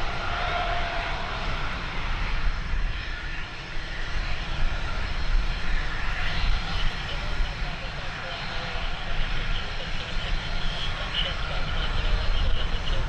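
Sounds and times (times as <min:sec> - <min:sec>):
airplane engine whine: 0:00.0 - 0:13.0
wind rumbling on microphone: 0:00.0 - 0:13.0.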